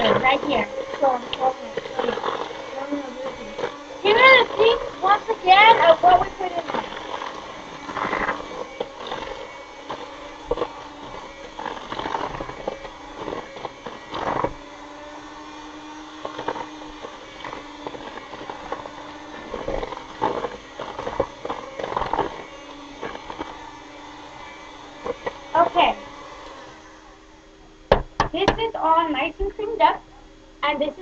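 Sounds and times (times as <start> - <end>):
electric hand mixer motor hum: 0.0 - 31.0.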